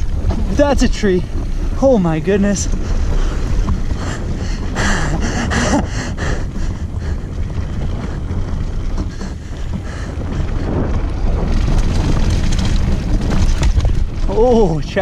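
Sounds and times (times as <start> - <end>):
bike rattling: 0.0 - 15.0
tyres rolling over gravel: 0.0 - 15.0
wind rushing over microphone: 0.0 - 15.0.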